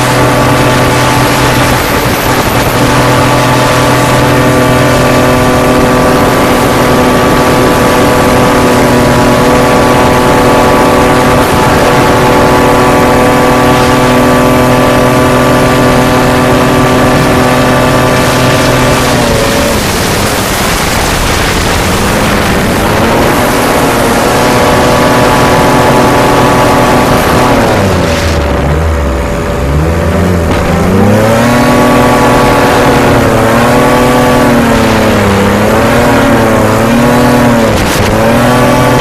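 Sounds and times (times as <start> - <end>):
hovercraft engine at high revs: 0.0 - 39.0.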